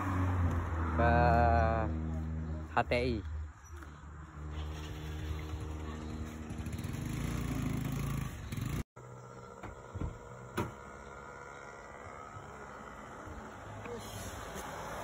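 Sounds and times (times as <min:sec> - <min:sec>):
vehicle engine passing: 0:00.0 - 0:08.8, 0:10.8 - 0:15.0.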